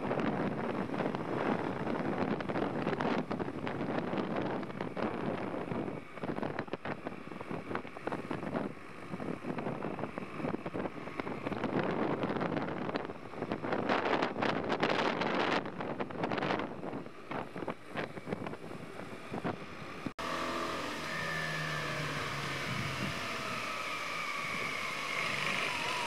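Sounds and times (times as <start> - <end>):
wind buffeting the microphone: 0.0 - 20.2, 21.4 - 26.0
motorcycle engine running: 0.0 - 26.0
road noise: 0.0 - 26.0.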